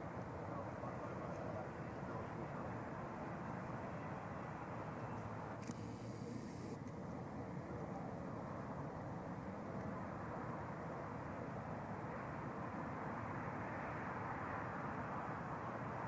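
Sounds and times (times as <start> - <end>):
distant jet engine rush: 0.0 - 16.0.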